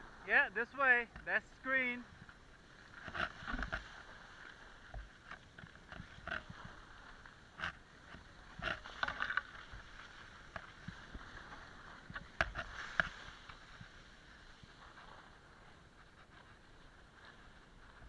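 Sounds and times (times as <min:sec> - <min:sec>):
skis sliding over snow: 0:00.0 - 0:18.0.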